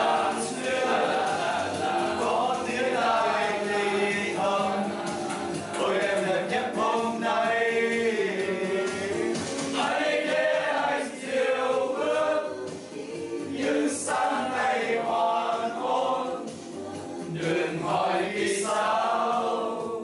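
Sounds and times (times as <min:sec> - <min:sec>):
men singing in chorus: 0:00.0 - 0:20.0.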